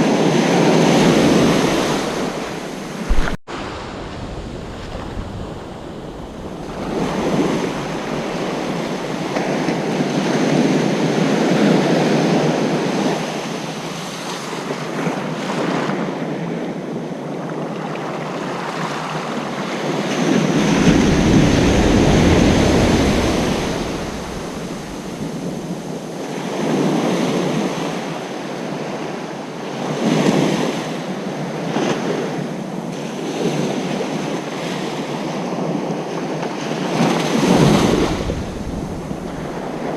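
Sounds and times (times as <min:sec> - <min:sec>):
ocean surf breaking on beach: 0:00.0 - 0:16.6, 0:17.9 - 0:39.9.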